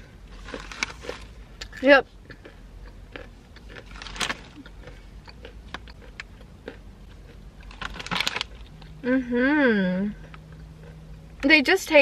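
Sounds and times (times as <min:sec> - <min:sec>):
chewing crunchy peanuts: 0:00.3 - 0:09.0, 0:10.1 - 0:11.3.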